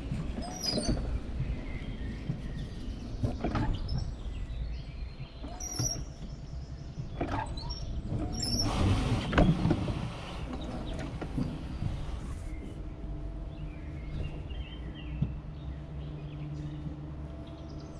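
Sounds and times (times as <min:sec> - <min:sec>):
low rumble of wheels: 0:00.0 - 0:17.9.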